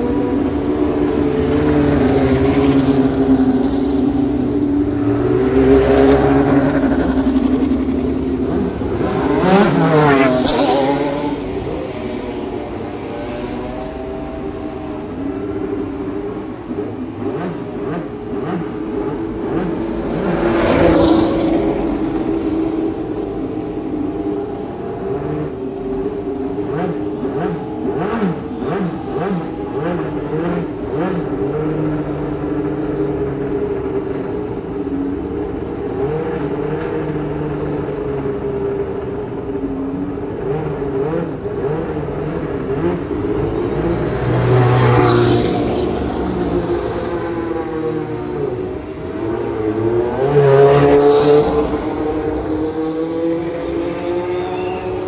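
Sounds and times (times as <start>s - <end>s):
race car passing loudly: 0.0s - 55.0s
race engines blipping throttle: 0.0s - 55.0s.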